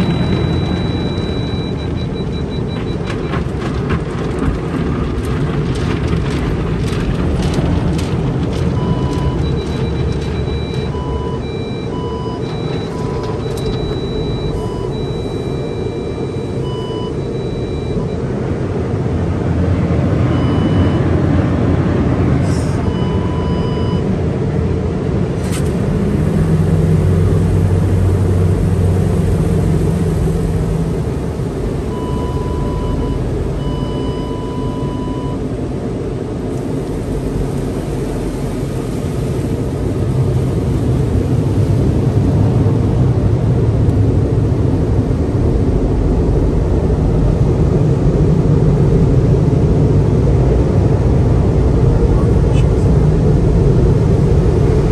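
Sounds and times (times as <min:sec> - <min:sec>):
water jets spraying over car: 0:00.0 - 0:17.9, 0:25.1 - 0:34.6, 0:35.4 - 0:54.9.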